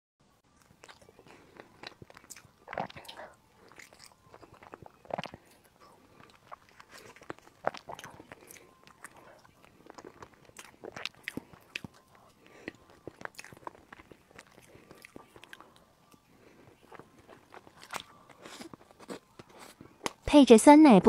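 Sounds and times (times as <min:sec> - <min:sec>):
person chewing: 0:00.5 - 0:20.2.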